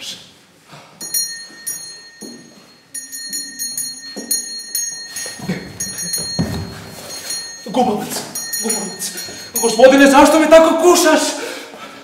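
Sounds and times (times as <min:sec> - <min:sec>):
hand bell ringing: 0:01.0 - 0:10.8.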